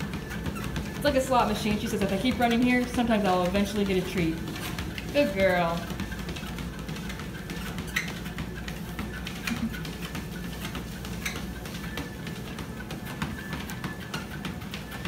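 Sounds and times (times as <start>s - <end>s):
dog paws clicking on belt: 0.0s - 15.0s
treadmill motor hum: 0.0s - 15.0s.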